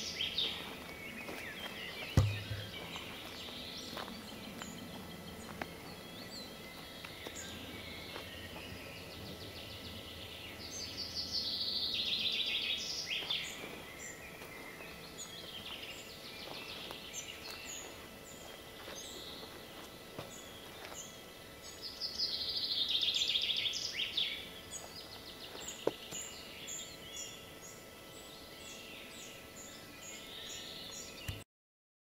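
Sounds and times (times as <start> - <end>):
songbirds singing: 0.0 - 31.4.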